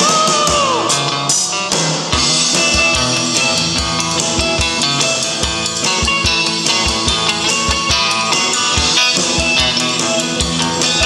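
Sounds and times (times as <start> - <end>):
cigar box guitar: 0.0 - 11.0
drum kit steady beat: 0.0 - 11.0
guitars: 0.0 - 11.0.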